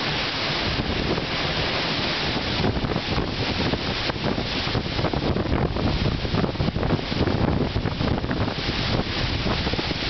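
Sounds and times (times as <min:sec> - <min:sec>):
wind gusts buffeting microphone: 0:00.0 - 0:10.0.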